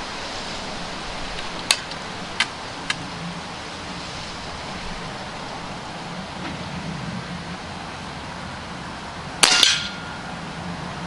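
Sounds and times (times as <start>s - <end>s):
steady background rush: 0.0s - 11.0s.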